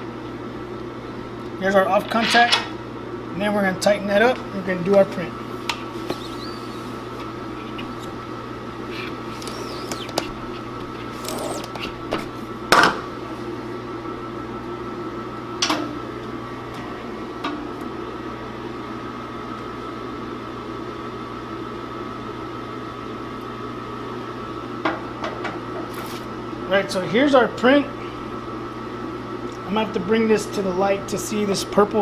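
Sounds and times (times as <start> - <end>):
machine hum with high whine: 0.0 - 32.0.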